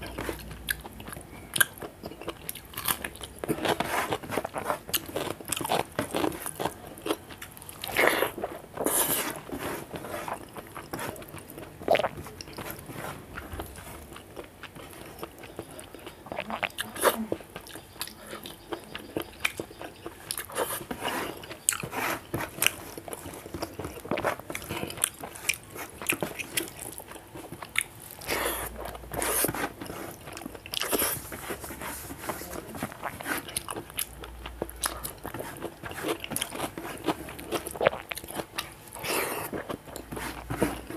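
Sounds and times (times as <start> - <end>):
man chewing: 0.0 - 40.9.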